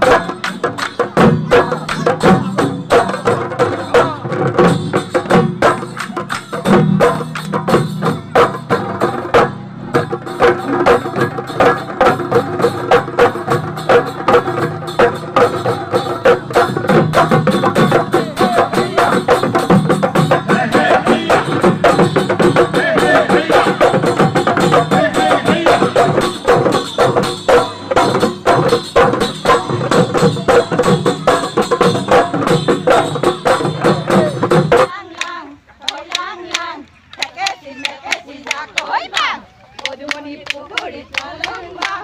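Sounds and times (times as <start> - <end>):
folk music with dhol drumming: 0.0 - 42.0.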